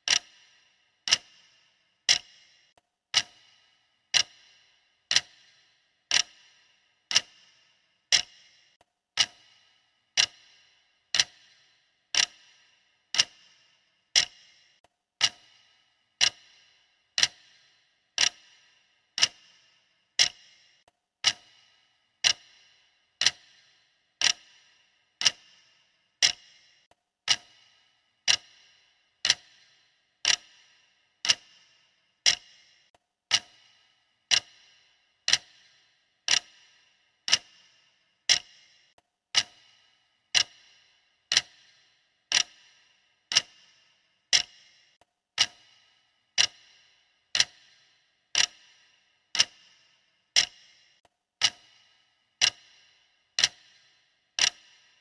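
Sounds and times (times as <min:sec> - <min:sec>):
clock ticking with ring: 0:00.0 - 0:55.0.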